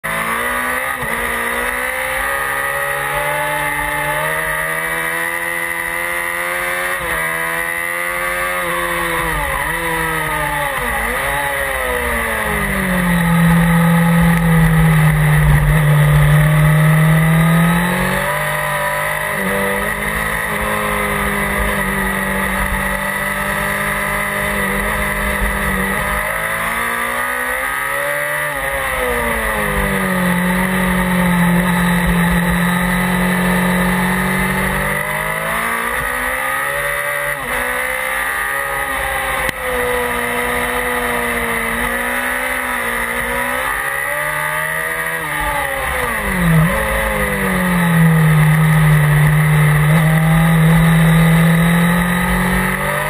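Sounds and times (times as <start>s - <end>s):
motorcycle engine revving through gears: 0.0s - 53.0s.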